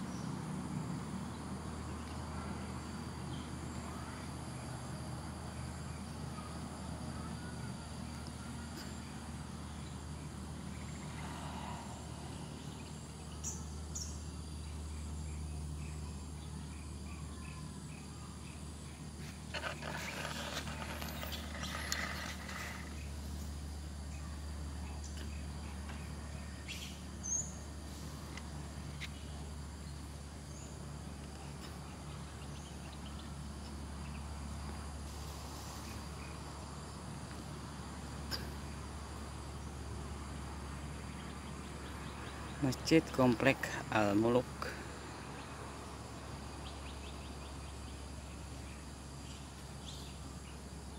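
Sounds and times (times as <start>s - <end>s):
high insect drone: 0.0s - 50.9s.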